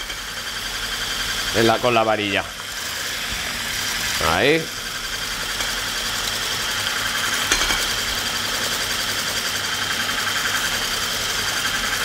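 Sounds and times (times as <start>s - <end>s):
electric mixer whisking: 0.0s - 12.0s.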